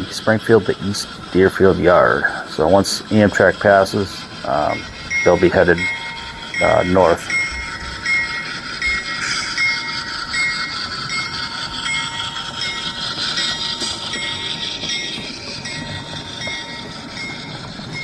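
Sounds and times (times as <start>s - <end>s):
model train running: 0.0s - 18.0s
bell dinging: 2.6s - 18.0s.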